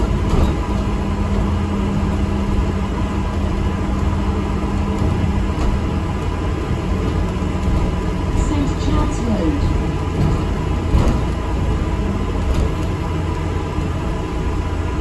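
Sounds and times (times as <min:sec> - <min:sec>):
bus engine and road rumble: 0:00.0 - 0:15.0
steady hum: 0:00.0 - 0:15.0.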